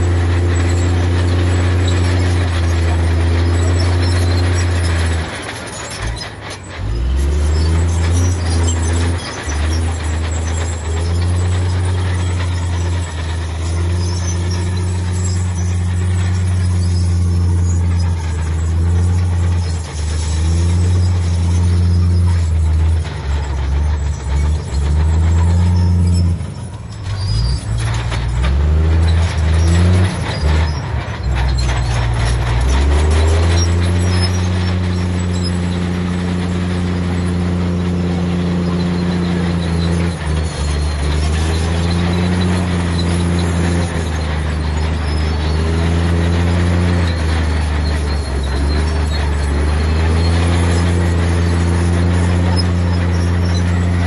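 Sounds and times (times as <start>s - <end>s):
heavy diesel engine drone: 0.0s - 54.0s.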